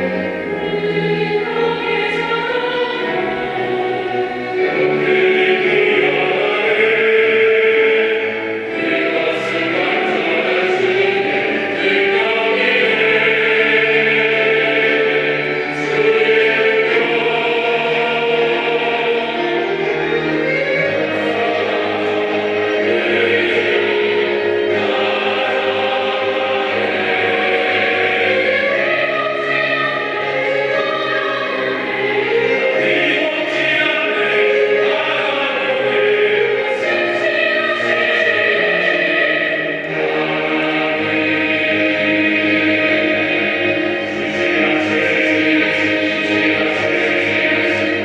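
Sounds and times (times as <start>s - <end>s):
choir singing sustained chords: 0.0s - 48.0s.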